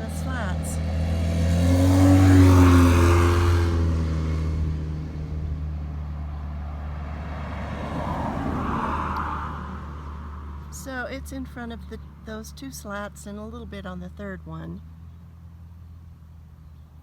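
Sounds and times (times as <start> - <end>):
vehicle passing by: 0.0 - 17.0.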